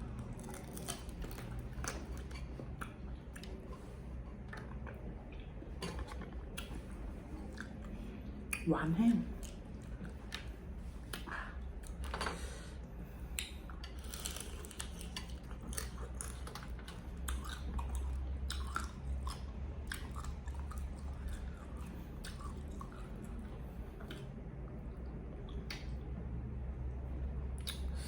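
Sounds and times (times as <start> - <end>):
person chewing crunchy food: 0.0 - 8.6, 9.3 - 24.5.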